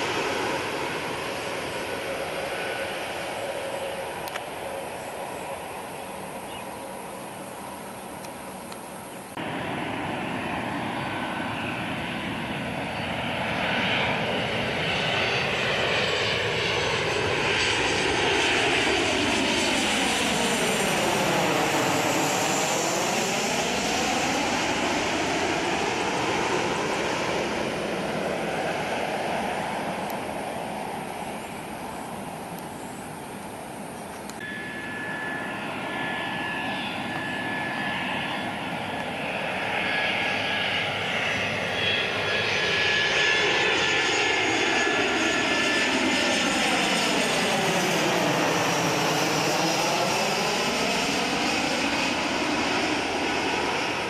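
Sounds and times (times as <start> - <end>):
jet engine high whine: 0.0 - 54.0
jet passing low overhead: 0.0 - 54.0.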